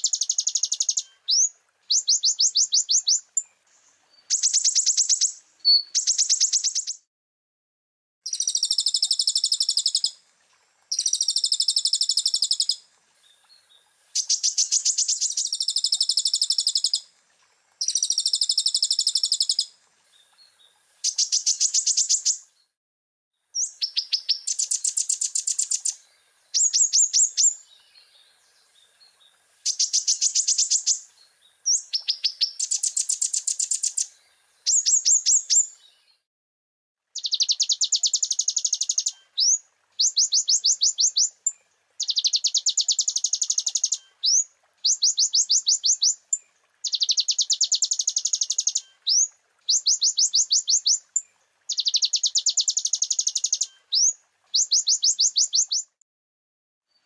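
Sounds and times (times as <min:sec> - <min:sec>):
bird song with buzzy trills: 0:00.0 - 0:07.1, 0:08.3 - 0:10.2, 0:10.9 - 0:17.1, 0:17.8 - 0:22.8, 0:23.6 - 0:36.2, 0:37.2 - 0:56.0.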